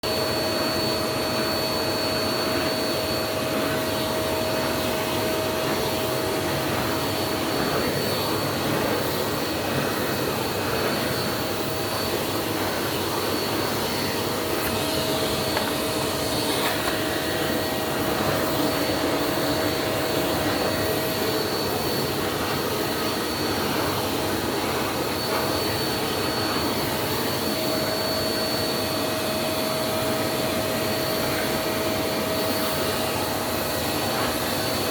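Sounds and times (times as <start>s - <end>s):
vacuum cleaner whine: 0.0s - 34.9s.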